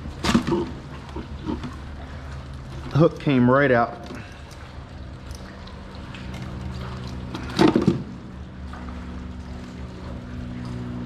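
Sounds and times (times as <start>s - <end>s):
steady low hum: 0.0s - 11.0s
water dripping and splashing: 0.0s - 11.0s.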